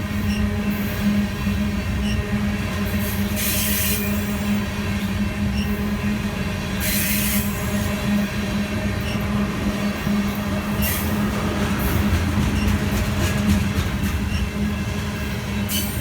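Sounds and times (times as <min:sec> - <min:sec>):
freight train rolling: 0:00.0 - 0:16.0.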